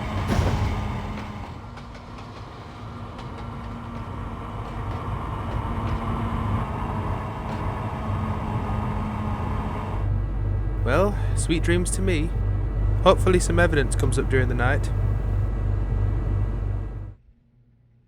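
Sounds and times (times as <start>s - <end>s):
locomotive rumbling along track: 0.0s - 17.2s.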